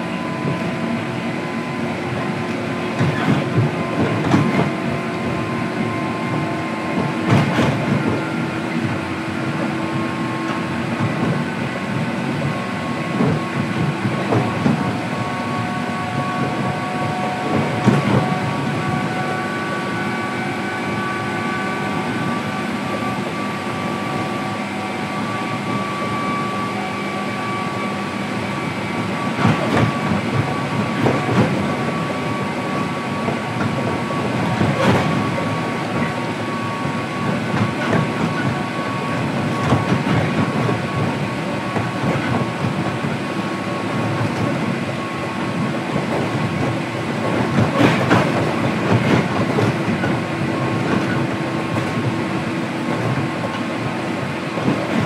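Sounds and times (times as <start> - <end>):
electric train rumble with motor whine: 0.0 - 55.0.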